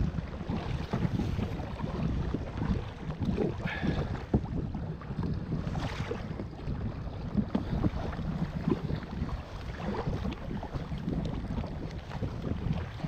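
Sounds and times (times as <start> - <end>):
paddle strokes splashing water: 0.0 - 13.0
wind rumble on microphone: 0.0 - 13.0.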